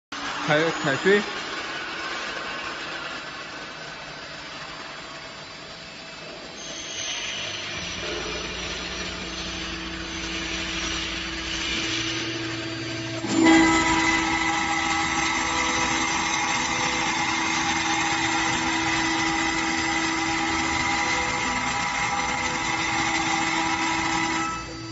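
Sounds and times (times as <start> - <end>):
cnc router spindle whine: 0.2 - 24.9.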